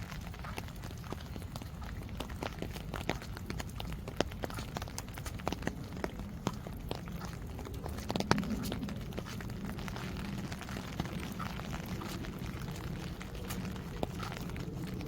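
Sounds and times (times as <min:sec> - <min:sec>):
rain falling: 0:00.0 - 0:15.0
sharp drips and taps: 0:00.0 - 0:15.0.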